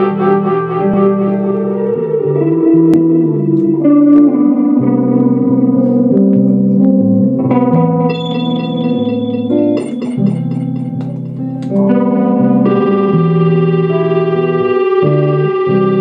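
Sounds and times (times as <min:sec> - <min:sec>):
electric guitar feedback tones: 0:00.0 - 0:16.0.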